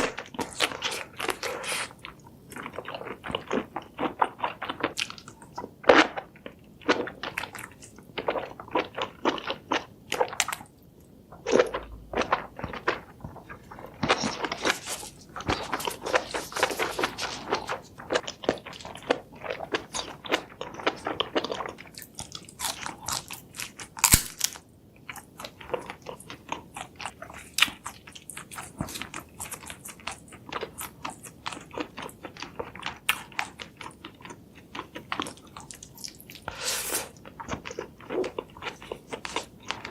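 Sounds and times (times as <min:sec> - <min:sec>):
crunchy food chewing: 0:00.0 - 0:10.7, 0:11.3 - 0:39.9.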